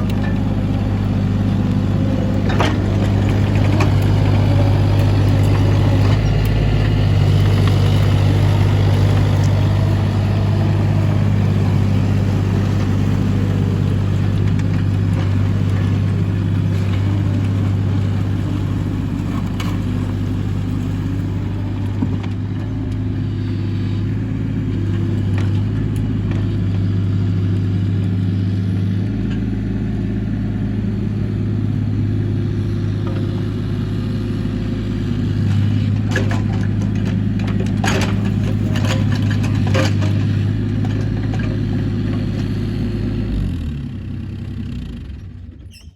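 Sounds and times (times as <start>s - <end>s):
excavator diesel engine running: 0.0s - 45.8s.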